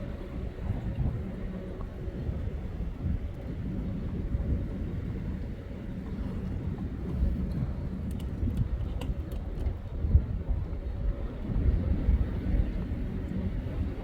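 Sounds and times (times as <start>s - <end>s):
faint engine tones: 0.0s - 14.0s
freight train rumble: 0.0s - 14.0s.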